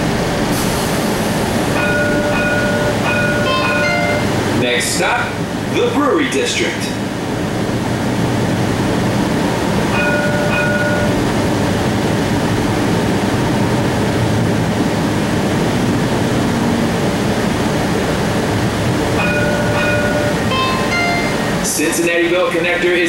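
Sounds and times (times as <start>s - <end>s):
streetcar rumbling on track: 0.0s - 23.0s.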